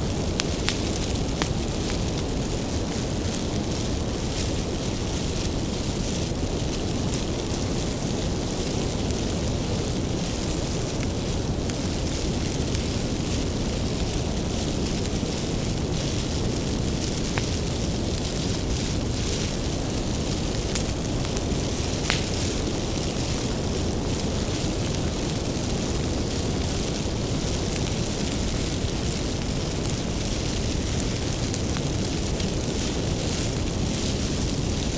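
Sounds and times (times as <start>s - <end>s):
fire crackles and pops: 0.0s - 34.9s
wood fire roaring: 0.0s - 34.9s.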